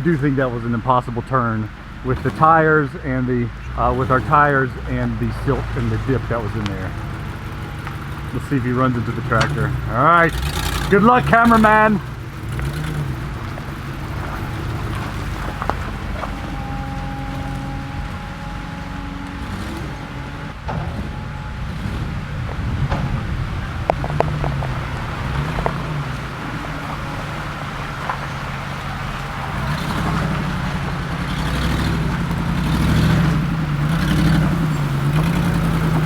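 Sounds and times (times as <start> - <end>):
engine working under load: 0.0 - 36.0.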